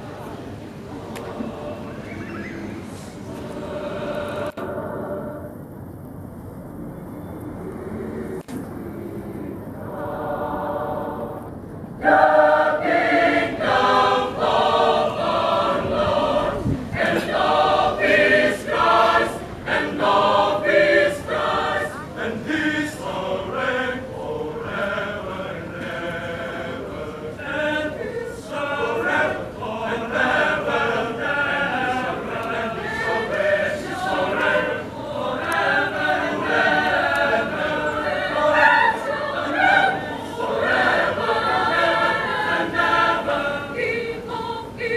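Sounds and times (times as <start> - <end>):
choir singing: 0.0 - 5.6, 8.9 - 44.9.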